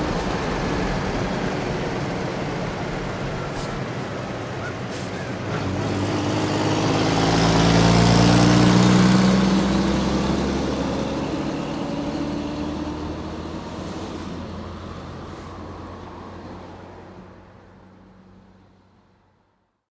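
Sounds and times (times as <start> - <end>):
truck engine and road noise: 0.0 - 19.4.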